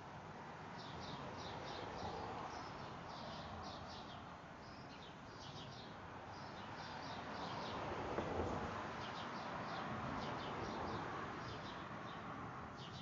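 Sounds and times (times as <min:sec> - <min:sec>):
outdoor background noise: 0:00.0 - 0:13.0
songbirds chirping: 0:00.6 - 0:13.0.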